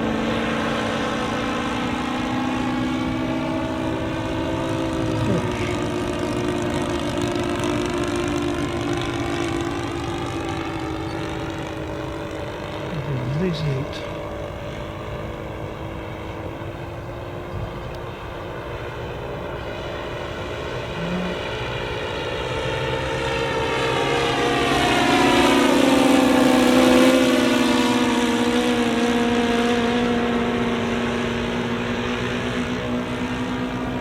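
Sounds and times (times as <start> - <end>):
model plane propeller engines: 0.0 - 34.0.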